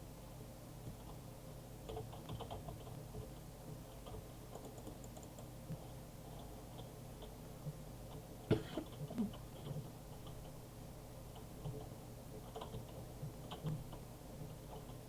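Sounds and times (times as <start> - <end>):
low steady hum: 0.0 - 15.0
faint light clicks and ticks: 0.8 - 10.6, 11.2 - 15.0.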